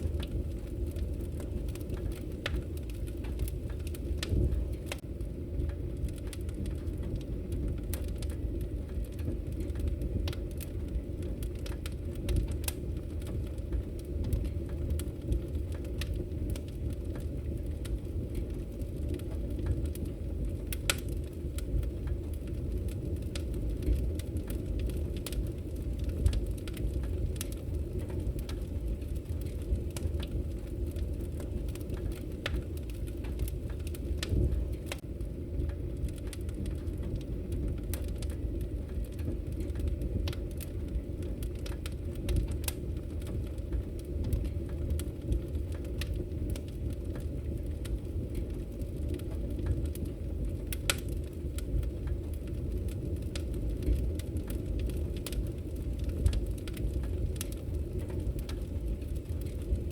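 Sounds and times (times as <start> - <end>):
low rumble of burning logs: 0.0 - 59.9
wood fire crackling: 0.0 - 59.9.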